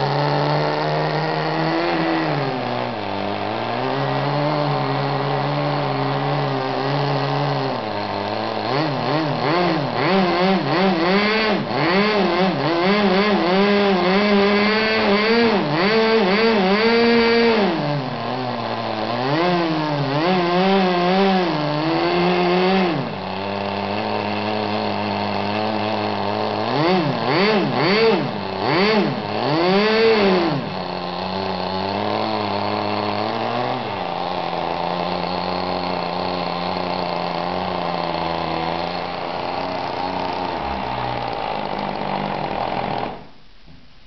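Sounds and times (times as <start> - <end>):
small two-stroke engine revving: 0.0 - 43.9.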